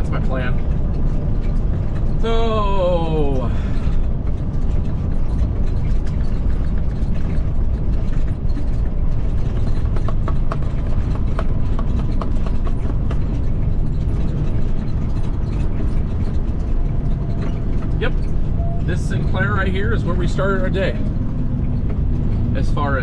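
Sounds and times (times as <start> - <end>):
light clicks and rattles: 0.0 - 23.0
truck engine and road drone: 0.0 - 23.0.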